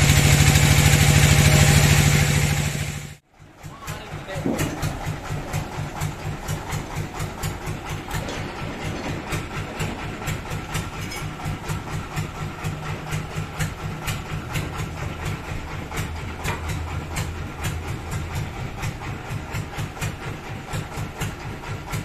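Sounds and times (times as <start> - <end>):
heavy engine idling: 0.0 - 22.0.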